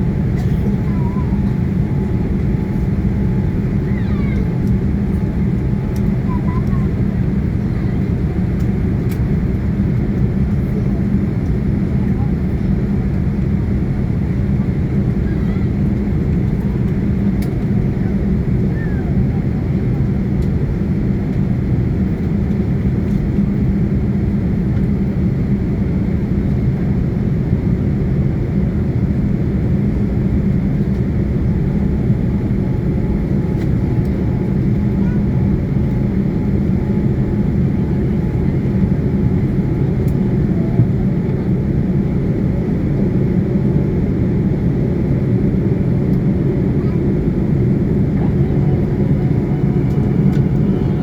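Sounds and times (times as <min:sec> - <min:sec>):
jet engines rumbling: 0:00.0 - 0:51.0.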